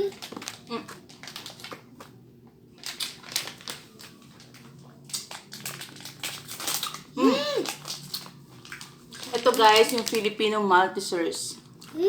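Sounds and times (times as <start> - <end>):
candy wrappers crinkling: 0.0 - 2.2, 2.8 - 10.6.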